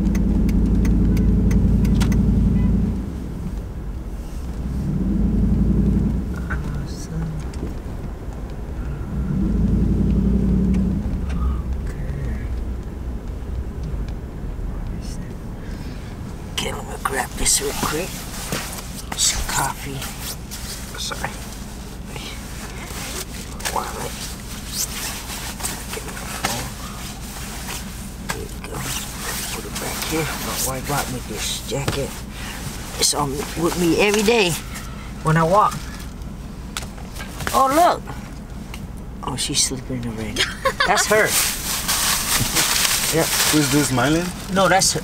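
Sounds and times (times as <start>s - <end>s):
truck engine rumble: 0.0s - 45.0s.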